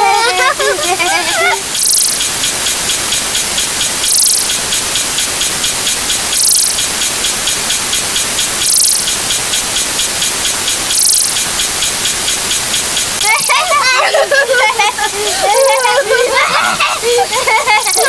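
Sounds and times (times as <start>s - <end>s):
dense loud hiss: 0.0s - 18.0s
faint rapid ticking: 0.0s - 18.0s.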